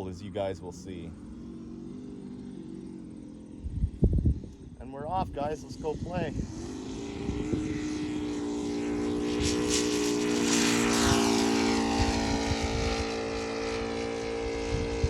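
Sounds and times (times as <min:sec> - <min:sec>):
model plane engine: 0:00.0 - 0:15.0.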